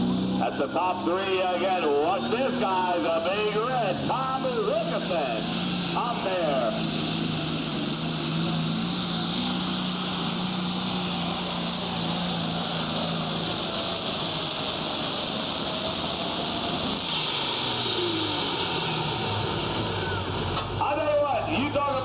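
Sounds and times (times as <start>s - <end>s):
turbo whine: 0.0s - 21.0s
diesel tractor engine under load: 0.0s - 22.0s.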